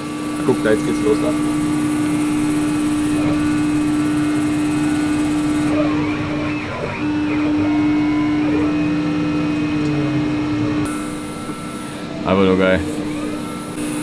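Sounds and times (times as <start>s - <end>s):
lathe machine hum: 0.0s - 14.0s
noise of metal cutting: 0.0s - 14.0s.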